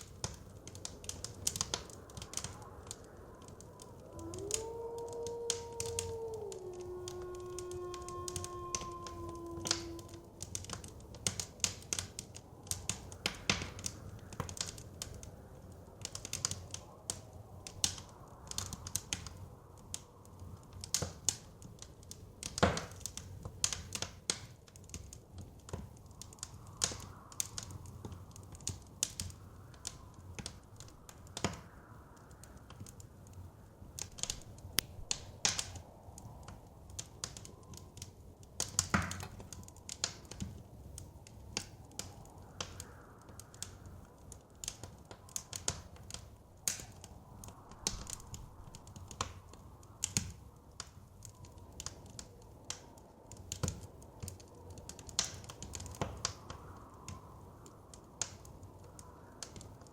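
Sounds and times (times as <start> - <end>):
fire pops and snaps: 0.0 - 59.9
fire rumbling: 0.0 - 59.9.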